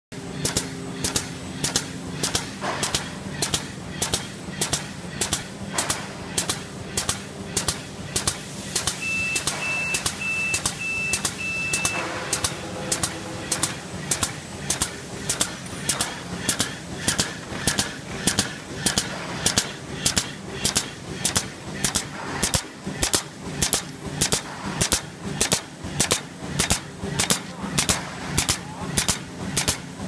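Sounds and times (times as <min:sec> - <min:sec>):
pouch-making machine humming: 0:00.2 - 0:30.0
sharp machine clacks: 0:00.2 - 0:30.0.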